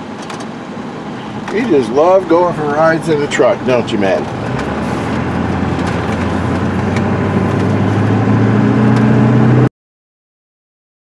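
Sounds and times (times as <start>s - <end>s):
truck engine and road noise: 0.0s - 9.7s.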